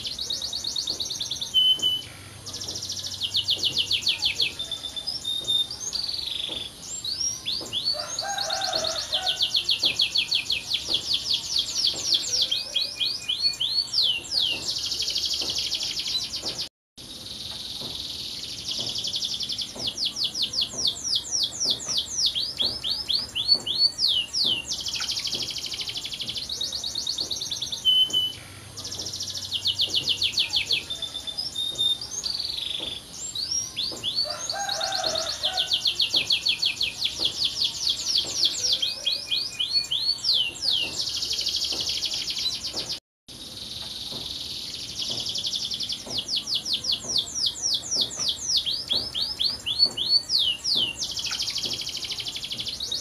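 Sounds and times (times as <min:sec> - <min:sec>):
canary singing trills: 0:00.0 - 0:16.7, 0:17.3 - 0:53.0.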